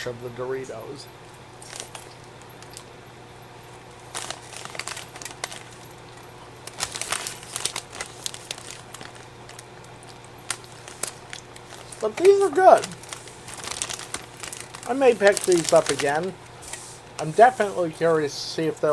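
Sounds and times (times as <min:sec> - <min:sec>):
plastic snack bag crinkling: 0:01.6 - 0:02.9, 0:03.7 - 0:18.9.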